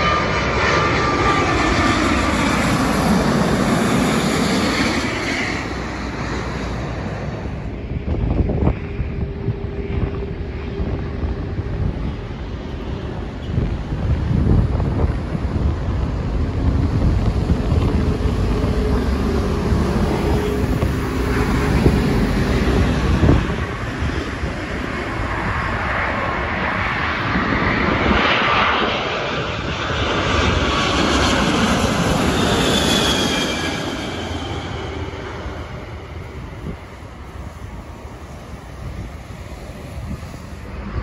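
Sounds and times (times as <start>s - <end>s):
jet airliner roar: 0.0s - 41.0s
wind buffeting microphone: 0.0s - 41.0s.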